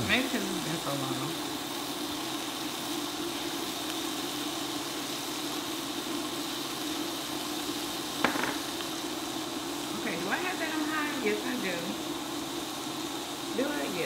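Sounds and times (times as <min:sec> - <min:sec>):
hiss: 0:00.0 - 0:14.0.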